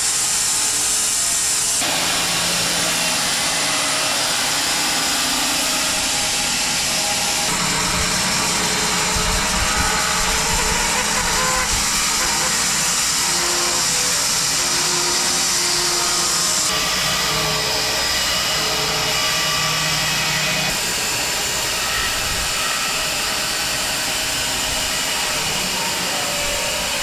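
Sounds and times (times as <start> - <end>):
bandsaw mill cutting log: 0.0 - 27.0.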